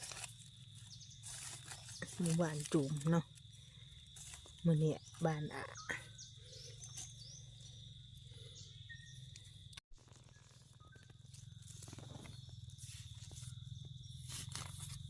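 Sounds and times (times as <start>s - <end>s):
faint chirps: 0.8s - 14.9s.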